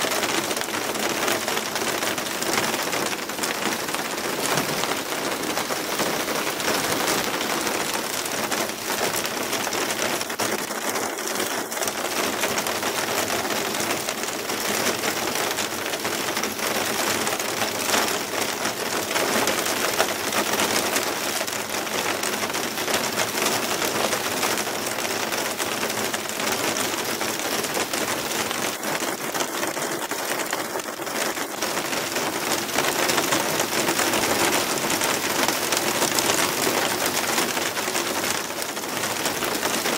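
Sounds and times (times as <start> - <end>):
hail and rain on roof tiles: 0.0 - 39.9.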